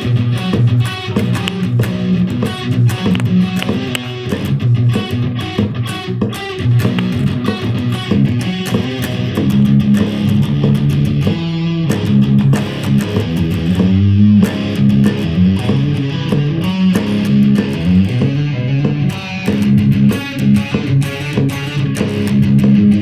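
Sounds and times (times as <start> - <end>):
distorted electric guitar chugs: 0.0 - 23.0.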